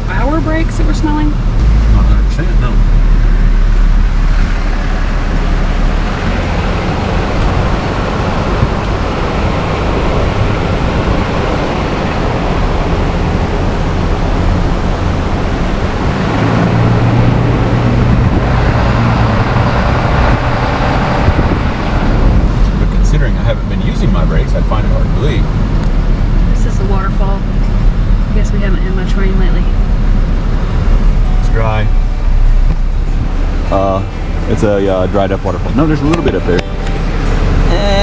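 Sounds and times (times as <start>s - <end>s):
road and tyre rumble: 0.0s - 38.0s
truck engine drone: 0.0s - 38.0s.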